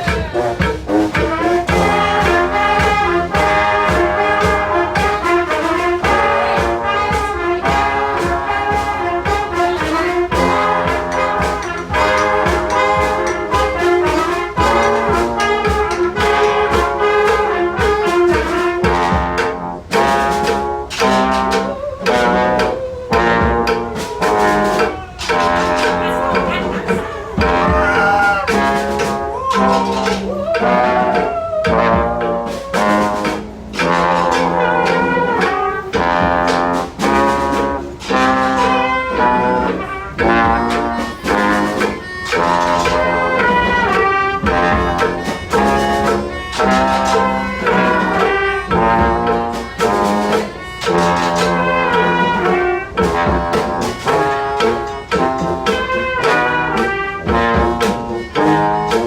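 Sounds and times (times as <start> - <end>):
brass street band playing: 0.0 - 59.0.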